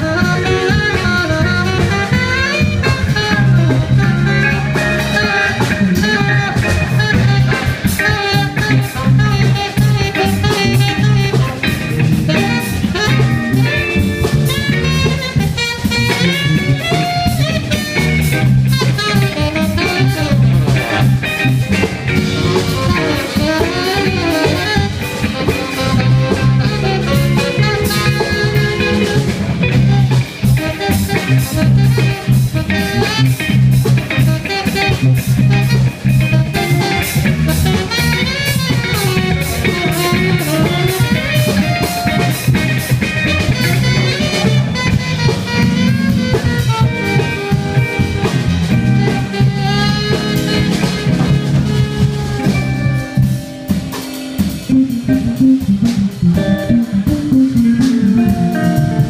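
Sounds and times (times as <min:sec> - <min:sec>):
bass guitar: 0:00.0 - 0:59.0
drum kit: 0:00.0 - 0:59.0
electric guitar: 0:00.0 - 0:59.0
saxophone: 0:00.0 - 0:59.0.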